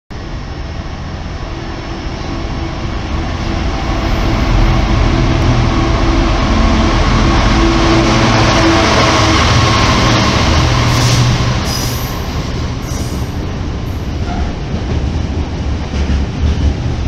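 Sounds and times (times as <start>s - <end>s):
diesel locomotive engine drone: 0.1s - 17.0s.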